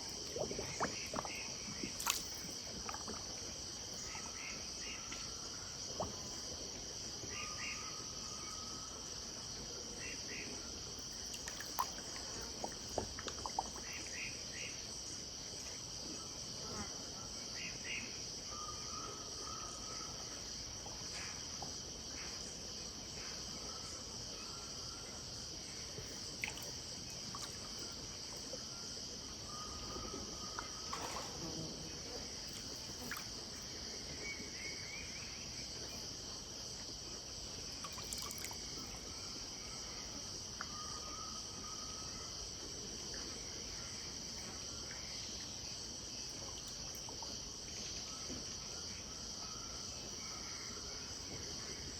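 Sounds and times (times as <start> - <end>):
crickets and insects chirping: 0.0 - 51.9.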